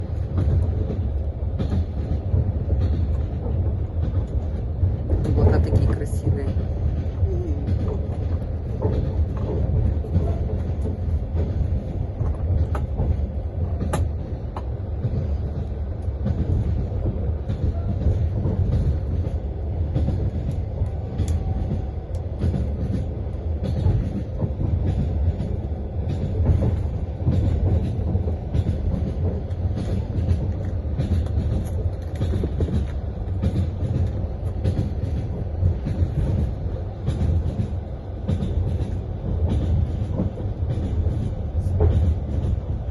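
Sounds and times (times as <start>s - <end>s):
train rumble inside carriage: 0.0s - 42.9s.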